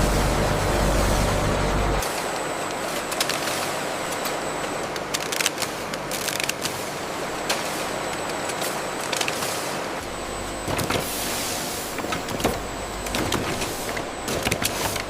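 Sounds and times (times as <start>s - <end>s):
faint high whine: 0.0s - 15.0s
machinery running: 0.0s - 15.0s.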